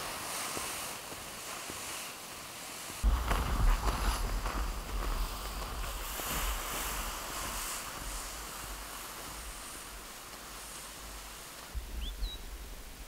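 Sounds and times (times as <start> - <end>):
snowshoes and toboggan sliding on snow: 0.0 - 13.0.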